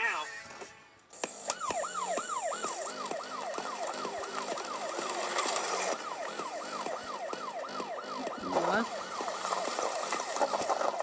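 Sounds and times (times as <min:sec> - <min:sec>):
police siren wailing: 0:01.2 - 0:11.0.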